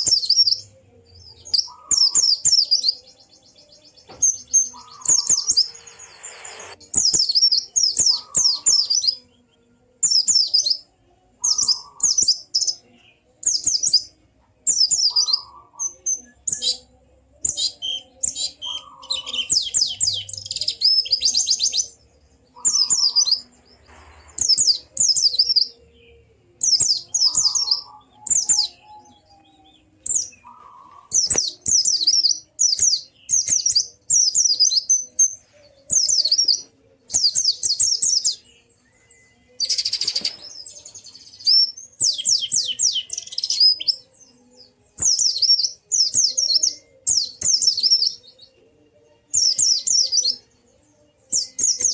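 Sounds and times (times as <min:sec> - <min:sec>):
bird chattering song: 0:00.0 - 0:09.4, 0:11.4 - 0:25.8, 0:26.6 - 0:44.3, 0:51.4 - 0:51.9.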